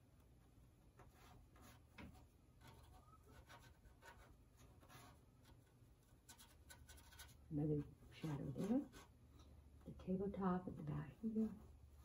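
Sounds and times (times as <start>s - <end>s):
paintbrush scratching on canvas: 0.9s - 12.0s.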